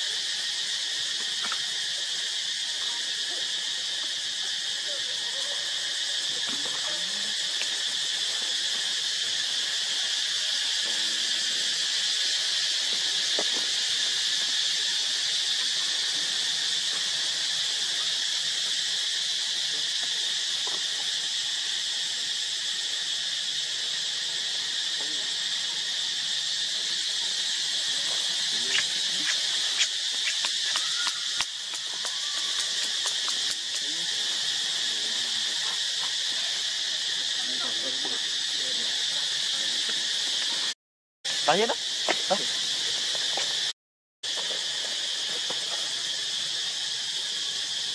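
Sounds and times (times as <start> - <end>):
high-pitched insect drone: 0.0 - 47.9.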